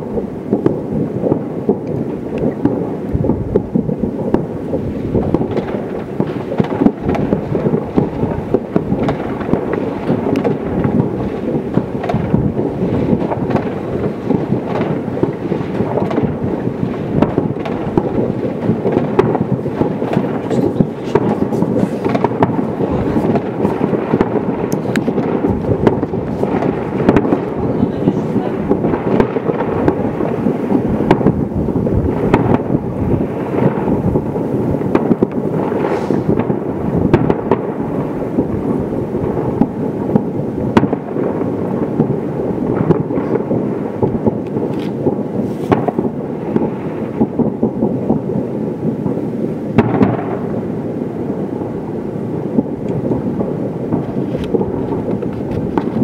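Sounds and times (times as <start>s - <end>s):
distant fireworks and firecrackers: 0.0s - 56.0s.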